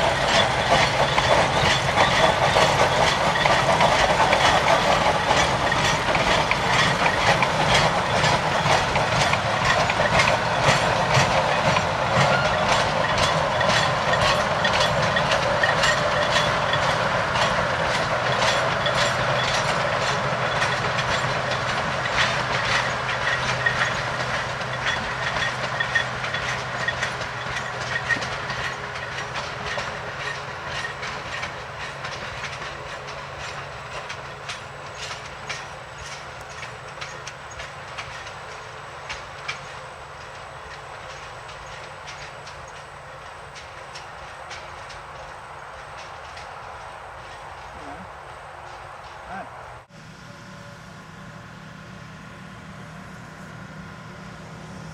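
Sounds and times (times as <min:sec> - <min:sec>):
train wheels clicking on rails: 0:00.0 - 0:50.0.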